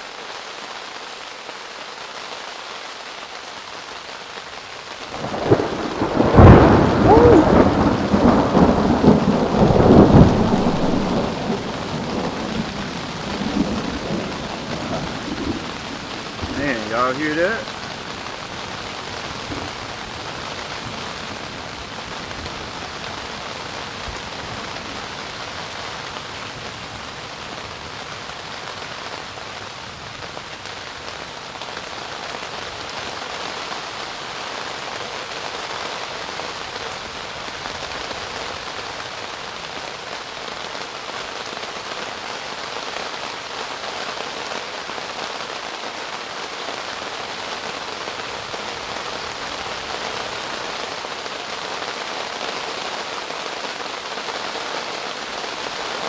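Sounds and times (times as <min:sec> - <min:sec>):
hard rain falling: 0:00.0 - 0:56.0.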